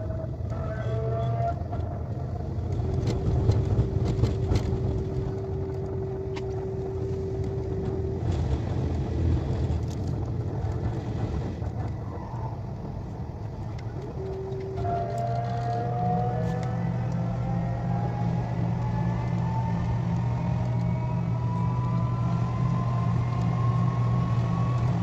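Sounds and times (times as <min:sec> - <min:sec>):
high-speed train rumbling: 0:00.0 - 0:25.0.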